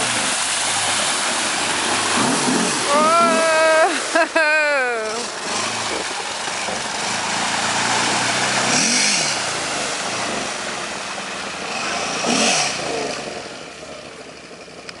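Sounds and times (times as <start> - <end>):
engine revving: 0.0 - 4.2, 5.0 - 15.0.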